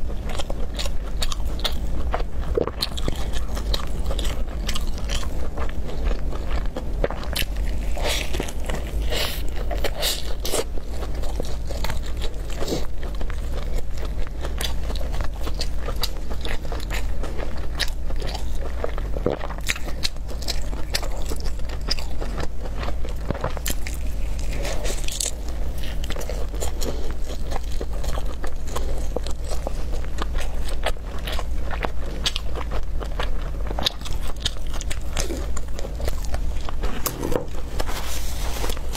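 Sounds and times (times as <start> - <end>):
crunchy chewing: 0.0 - 38.9
steady low hum: 0.0 - 38.9.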